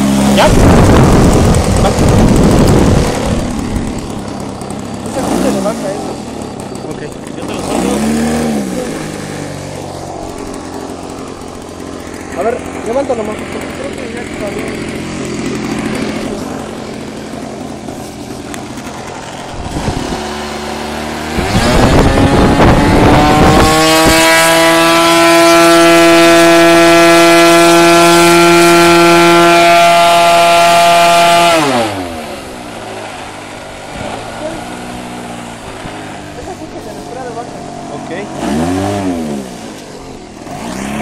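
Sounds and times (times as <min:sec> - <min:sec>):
model plane engine revving: 0:00.0 - 0:41.0.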